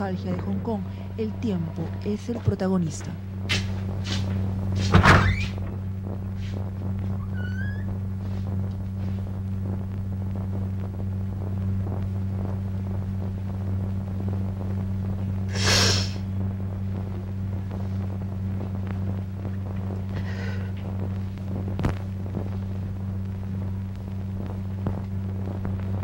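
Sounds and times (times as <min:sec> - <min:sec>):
low hum of film soundtrack: 0:00.0 - 0:26.0.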